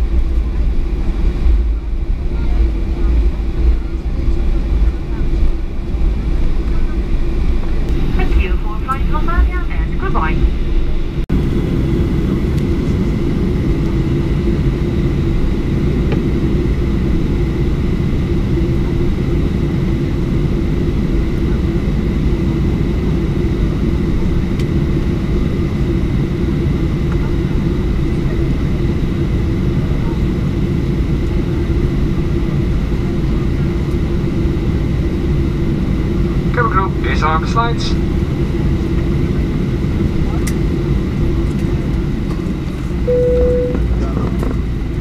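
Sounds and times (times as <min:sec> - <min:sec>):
constant whine: 0:00.0 - 0:45.0
jet engines idling rumble: 0:00.0 - 0:45.0.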